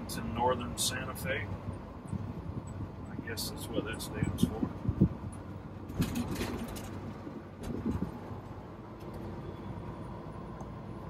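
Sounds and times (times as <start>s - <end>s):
road noise: 0.0s - 11.0s
truck engine hum: 0.0s - 11.0s.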